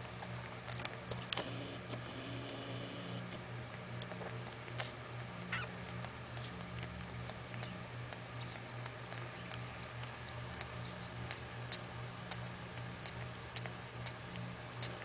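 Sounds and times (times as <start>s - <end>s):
puppies suckling wet clicks: 0.0s - 2.0s, 3.2s - 15.0s
steady low hum: 0.0s - 15.0s.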